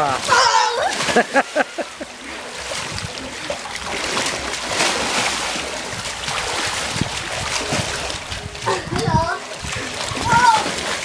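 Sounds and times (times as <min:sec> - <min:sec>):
pool water splashing: 0:00.0 - 0:11.0.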